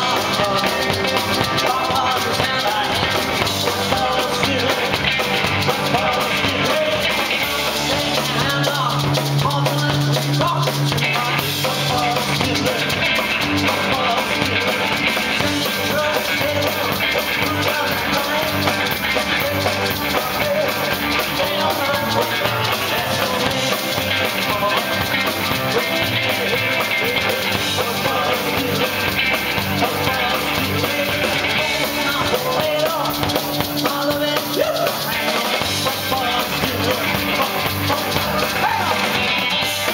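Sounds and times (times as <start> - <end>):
drum kit: 0.0 - 39.9
electric guitar: 0.0 - 39.9
maraca shaking: 0.0 - 39.9
person singing: 0.0 - 39.9.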